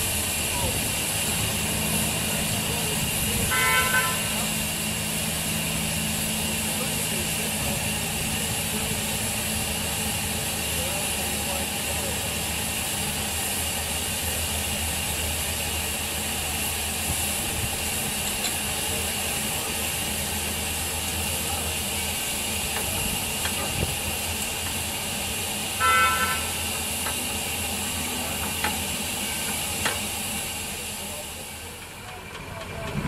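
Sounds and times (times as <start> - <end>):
steam locomotive hissing: 0.0 - 33.0.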